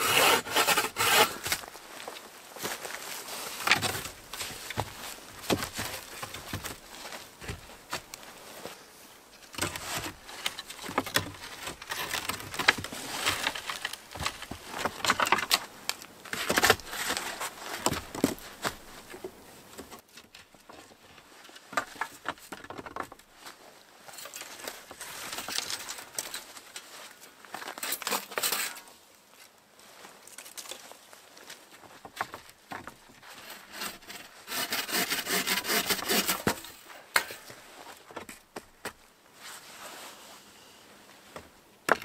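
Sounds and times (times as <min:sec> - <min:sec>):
rustling and crackling from handling: 0:00.6 - 0:34.4.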